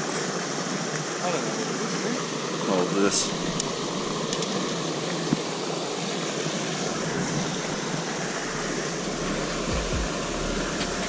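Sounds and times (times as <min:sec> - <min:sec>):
creek water flowing: 0:00.2 - 0:11.0.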